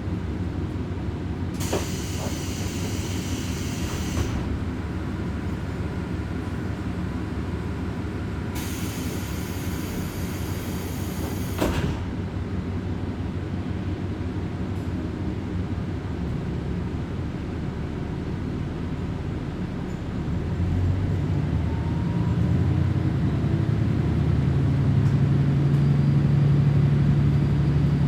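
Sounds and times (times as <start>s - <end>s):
train interior low rumble: 0.0s - 28.0s.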